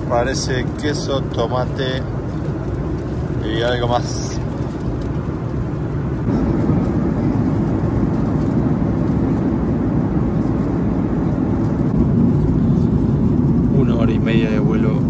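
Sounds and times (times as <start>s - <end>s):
airflow past fuselage: 0.0s - 15.0s
jet engine rumble: 0.0s - 15.0s.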